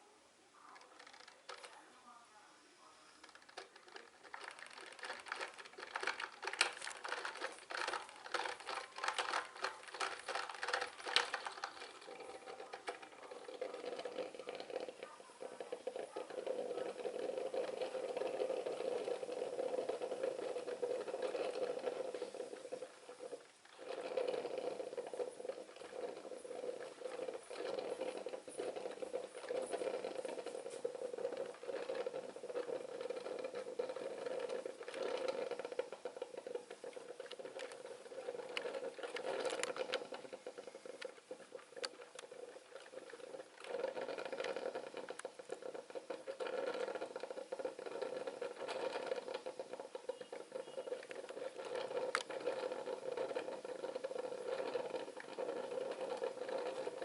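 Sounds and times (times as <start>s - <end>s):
coffee maker sputtering and gurgling: 0.0s - 57.0s
small crackling clicks: 0.0s - 57.0s.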